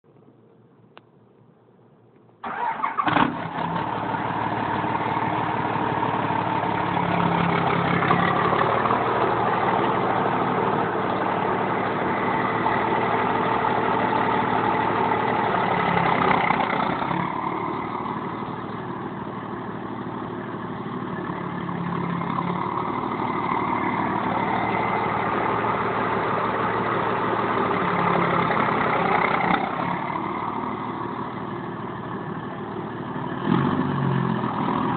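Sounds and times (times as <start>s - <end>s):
diesel engine idling: 2.4s - 34.9s.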